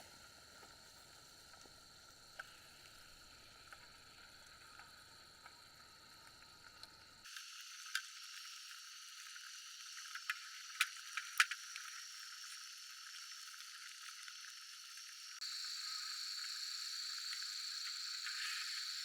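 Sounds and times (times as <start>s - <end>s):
insect trill: 0.0s - 19.0s
insects and frogs calling: 0.0s - 19.0s.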